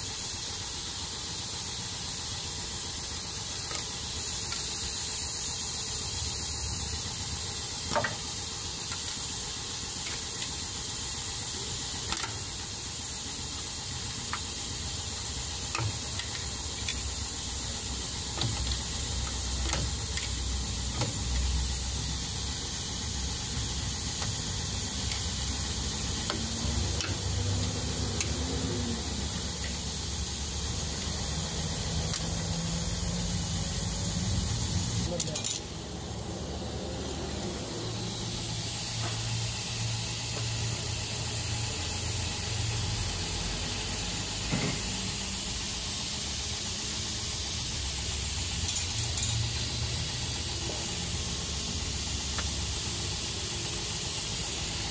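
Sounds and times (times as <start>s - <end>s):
steady hiss: 0.0s - 54.9s.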